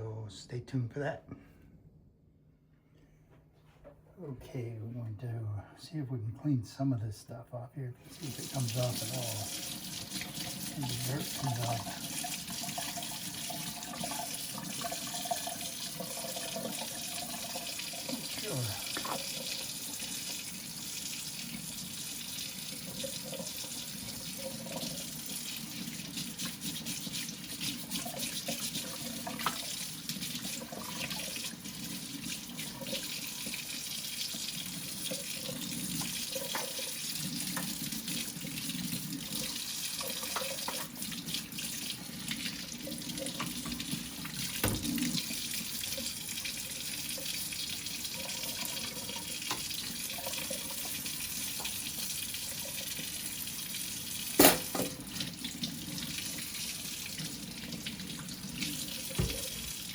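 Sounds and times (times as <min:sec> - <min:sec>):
tap water running into sink: 0:08.1 - 0:59.9.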